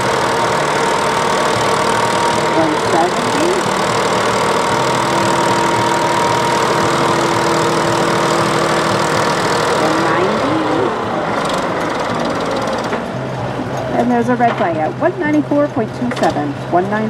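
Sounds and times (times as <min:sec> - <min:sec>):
tractor engine under load: 0:00.0 - 0:14.8.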